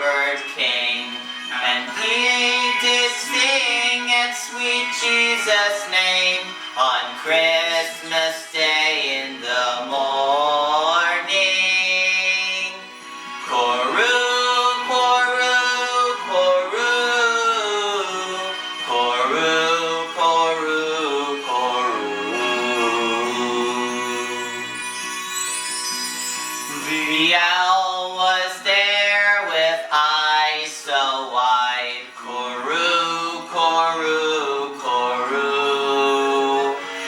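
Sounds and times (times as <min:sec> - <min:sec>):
carol singing: 0:00.0 - 0:37.0
instrumental accompaniment: 0:00.0 - 0:37.0.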